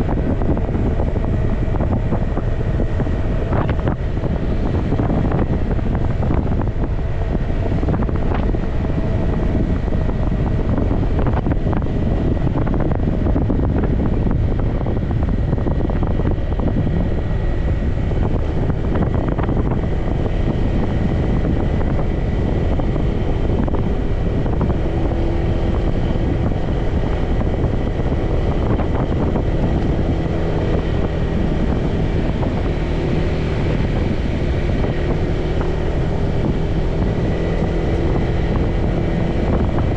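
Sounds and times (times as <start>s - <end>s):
motorbike engine running: 0.0s - 39.9s
wind rushing over microphone: 0.0s - 39.9s.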